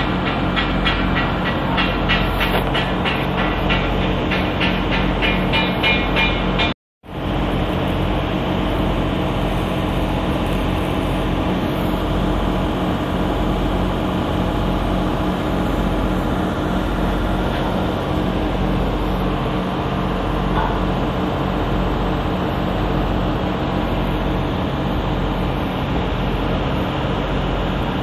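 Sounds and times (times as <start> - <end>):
industrial machinery hum: 0.0 - 28.0.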